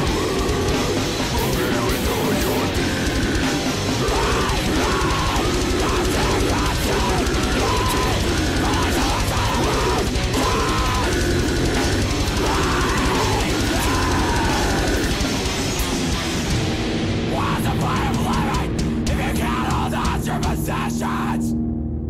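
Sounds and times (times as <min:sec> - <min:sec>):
drum kit: 0:00.0 - 0:21.1
heavy metal electric guitars: 0:00.0 - 0:21.5.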